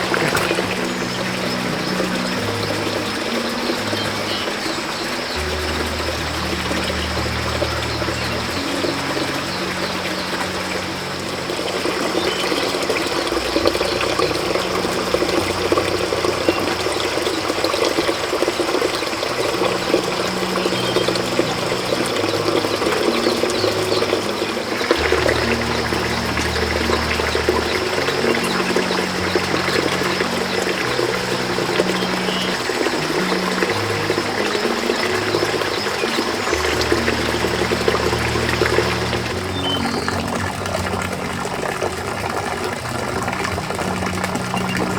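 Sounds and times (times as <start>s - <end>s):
soft background music: 0.0s - 44.9s
water pouring: 0.0s - 44.9s.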